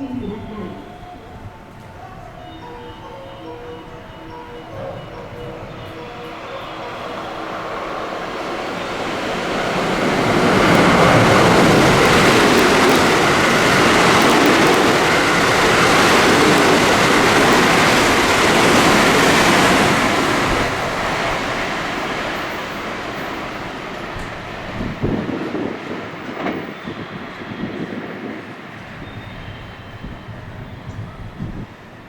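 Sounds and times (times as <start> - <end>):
train passing at speed: 0.0 - 32.0.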